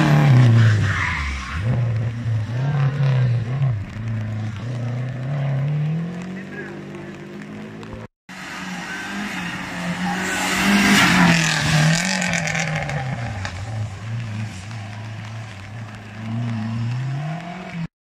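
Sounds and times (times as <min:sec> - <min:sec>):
tyre noise on wet tarmac: 0:00.0 - 0:17.9
race car engine revving: 0:01.6 - 0:17.9.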